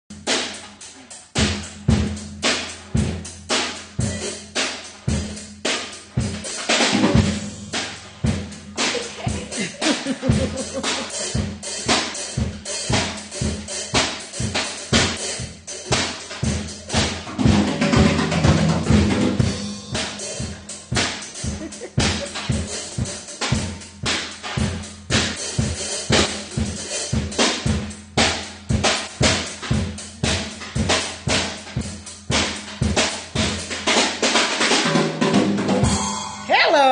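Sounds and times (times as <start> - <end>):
drum kit beat: 0.1 - 36.9.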